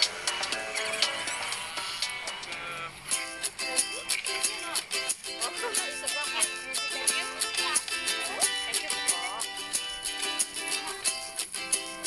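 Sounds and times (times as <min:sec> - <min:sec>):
plucked-string tune with beat: 0:00.0 - 0:12.0.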